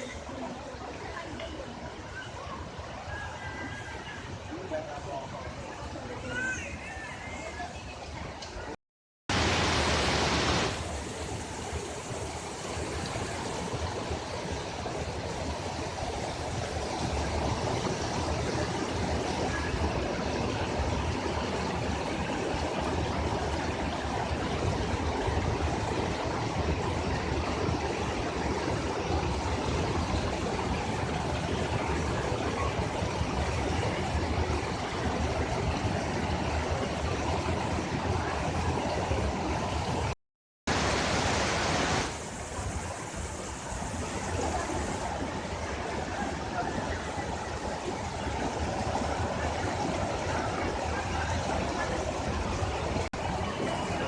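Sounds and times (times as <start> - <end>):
waterfall rushing: 9.3 - 54.0.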